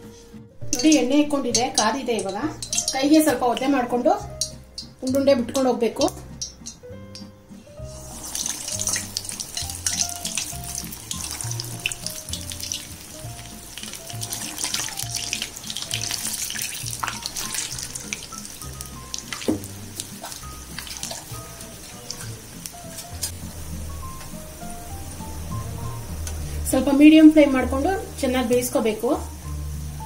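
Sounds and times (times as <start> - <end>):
batter sizzling in hot oil: 0.6 - 30.0.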